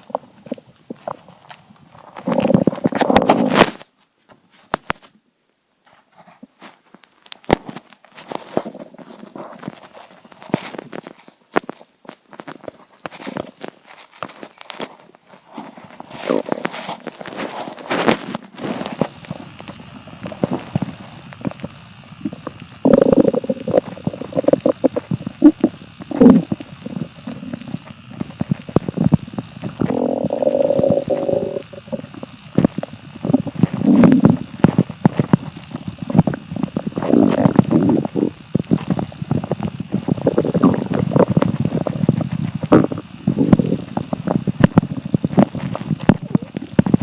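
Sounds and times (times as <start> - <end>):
stomach gurgling: 0.0 - 3.8, 6.2 - 47.0.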